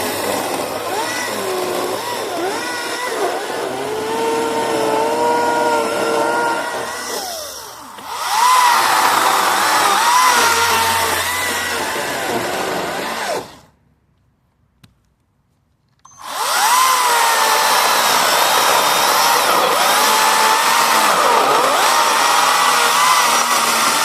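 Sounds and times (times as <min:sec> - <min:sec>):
electric chainsaw whining: 0:00.0 - 0:13.7, 0:16.1 - 0:24.0.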